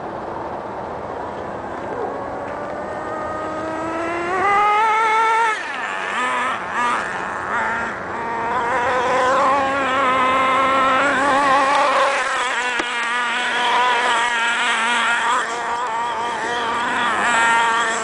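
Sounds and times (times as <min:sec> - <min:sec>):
small engine revving: 0:01.1 - 0:18.0.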